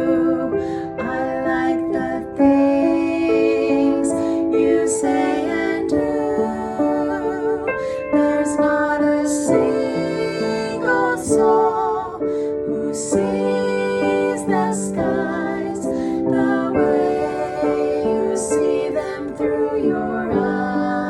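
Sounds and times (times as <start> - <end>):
women singing together: 0.0 - 21.0.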